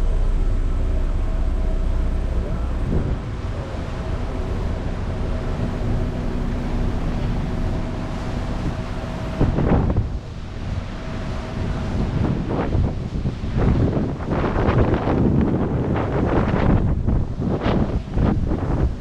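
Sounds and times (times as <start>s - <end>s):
ferry engine rumble: 0.0s - 19.0s
rushing water: 0.0s - 19.0s
wind on microphone: 0.0s - 19.0s.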